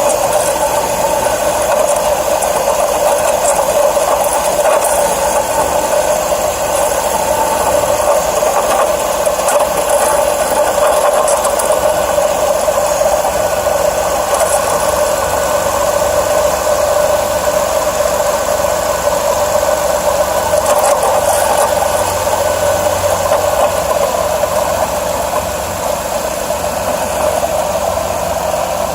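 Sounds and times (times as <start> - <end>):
rattling chatter from engine: 0.0 - 28.9.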